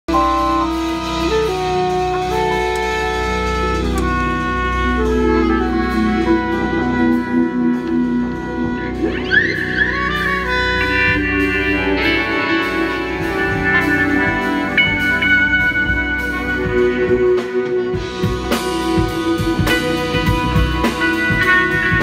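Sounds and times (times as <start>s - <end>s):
bass guitar: 0.0s - 22.0s
drum kit: 0.1s - 22.0s
electric guitar: 0.1s - 22.0s
trumpet lead: 0.1s - 22.0s.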